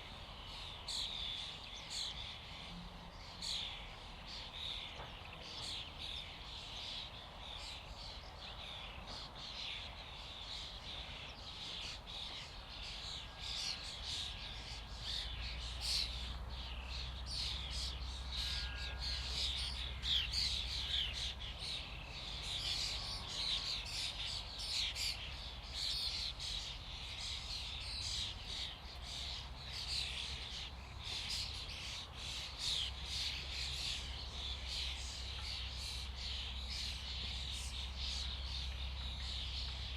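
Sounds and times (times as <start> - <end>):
flock of starlings chattering: 0.0 - 39.9.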